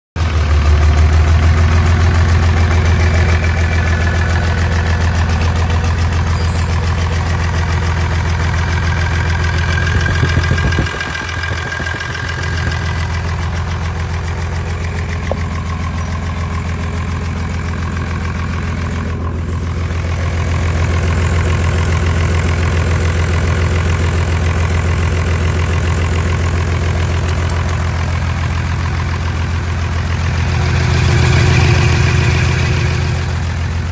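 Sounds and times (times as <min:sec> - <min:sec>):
diesel engine idling: 0:00.2 - 0:33.9.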